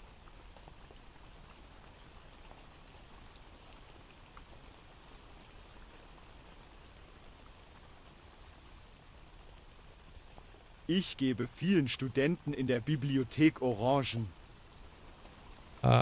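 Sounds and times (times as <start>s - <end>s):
rain drops ticking: 0.0s - 16.0s
rainfall hiss: 0.0s - 16.0s.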